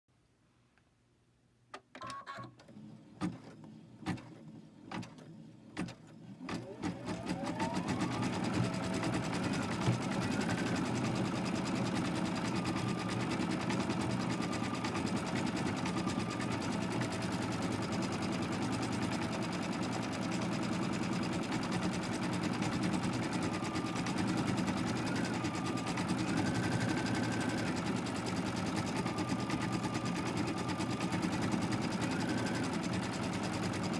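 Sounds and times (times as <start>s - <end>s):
embroidery machine stitching: 2.0s - 33.9s.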